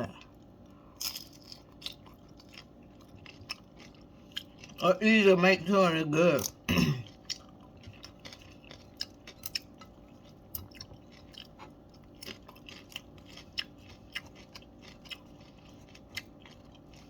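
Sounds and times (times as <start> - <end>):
chewing crunchy chips: 0.0 - 17.0.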